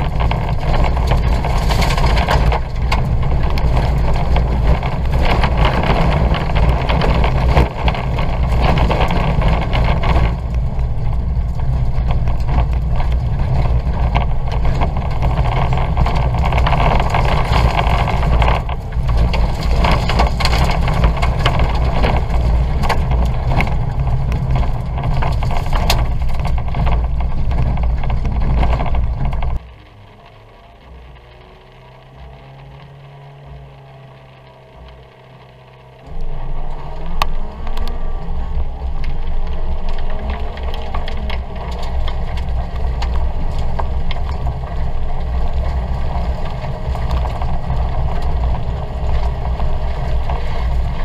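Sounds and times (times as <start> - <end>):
car engine running hard: 0.0 - 51.0
tyres on loose dirt: 0.0 - 51.0.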